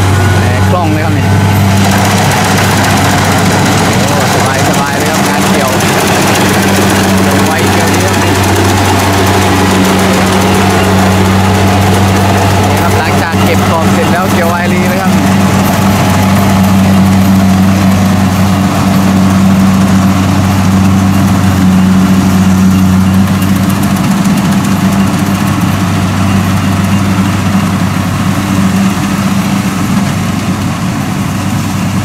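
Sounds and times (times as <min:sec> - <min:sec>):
combine harvester engine humming: 0:00.0 - 0:32.0.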